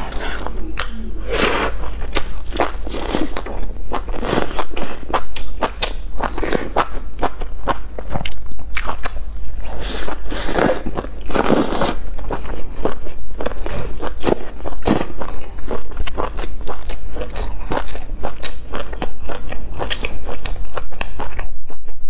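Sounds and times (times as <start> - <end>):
person chewing sandwich: 0.0 - 22.0.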